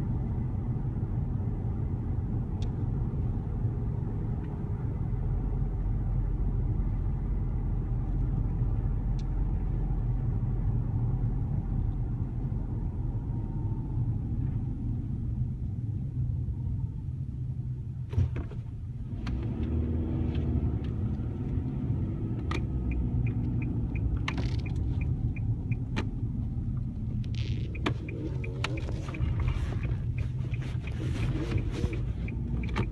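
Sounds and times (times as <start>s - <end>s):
road and engine rumble: 0.0s - 32.9s.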